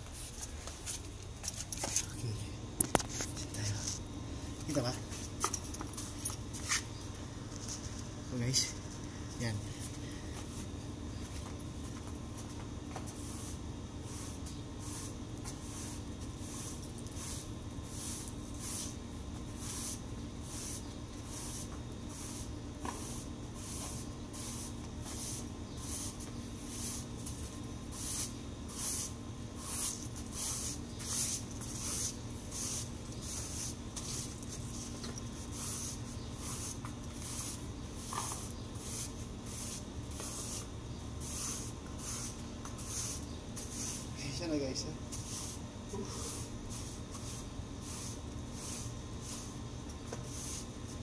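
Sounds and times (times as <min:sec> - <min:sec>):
broom sweeping paved floor: 0:00.0 - 0:51.0
steady low hum: 0:00.0 - 0:51.0.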